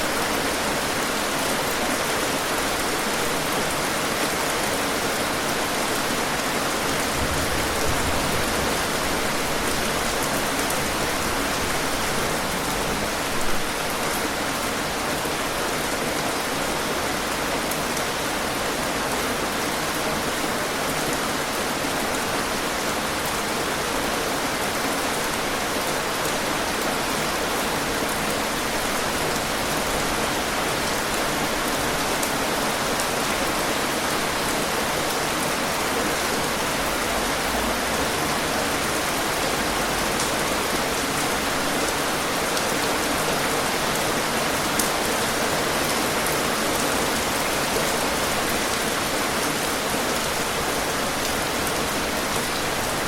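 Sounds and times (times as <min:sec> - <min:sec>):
heavy rain pattering: 0:00.0 - 0:53.0.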